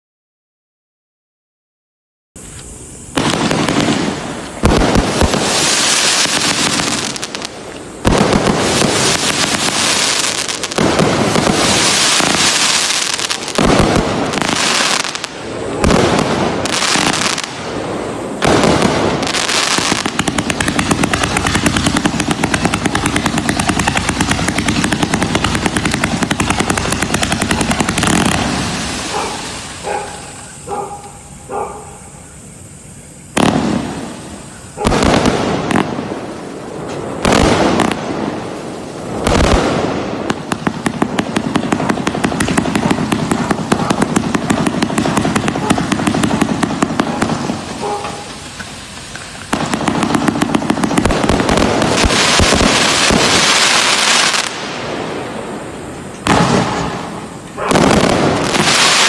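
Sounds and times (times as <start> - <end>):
fireworks crackle: 2.4 - 59.0
fireworks shots and bursts: 2.4 - 59.0.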